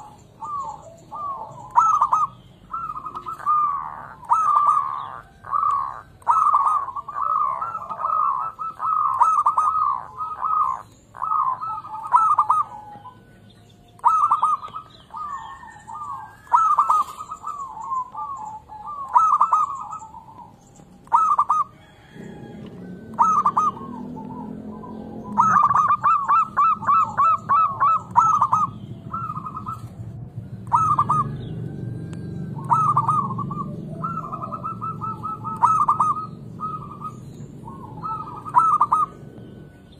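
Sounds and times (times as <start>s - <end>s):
dove cooing: 0.0s - 39.9s
low background rumble: 0.0s - 39.9s.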